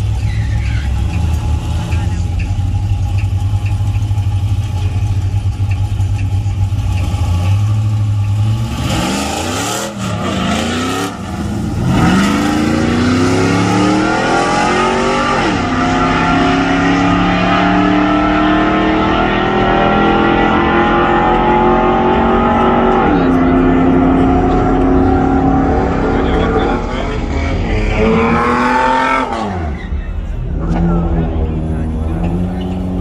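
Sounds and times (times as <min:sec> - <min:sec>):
drag racing engine revving: 0:00.0 - 0:33.0.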